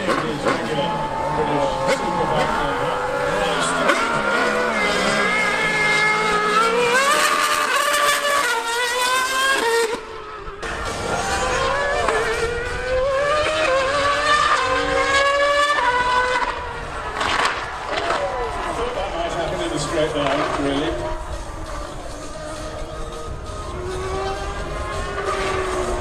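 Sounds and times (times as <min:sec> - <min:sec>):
racing engines revving: 0:00.0 - 0:26.0.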